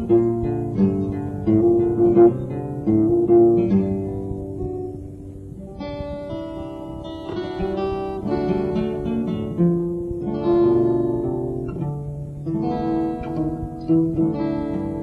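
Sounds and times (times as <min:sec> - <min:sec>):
acoustic guitar plucked: 0:00.0 - 0:15.0.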